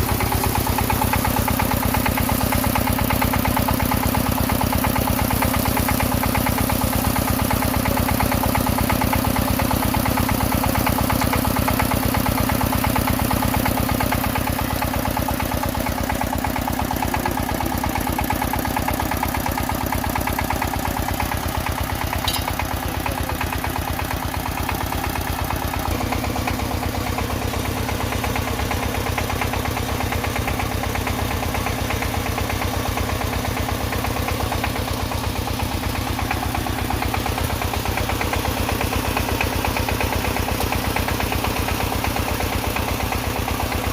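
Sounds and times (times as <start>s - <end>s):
drill rig engine running: 0.0s - 43.9s.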